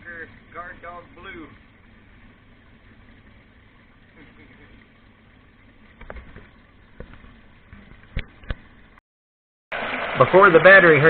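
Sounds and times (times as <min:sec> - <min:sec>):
water pump humming: 0:00.0 - 0:09.0, 0:09.7 - 0:11.0.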